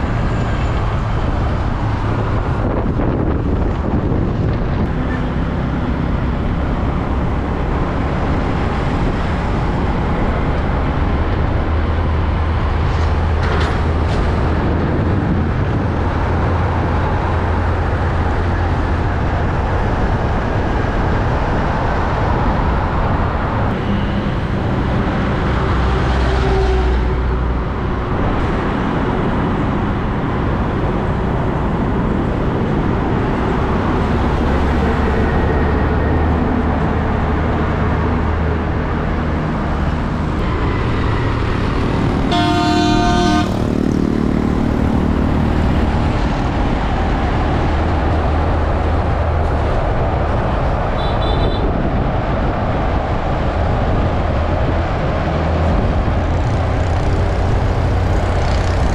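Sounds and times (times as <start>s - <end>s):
trucks driving past: 0.0s - 58.9s.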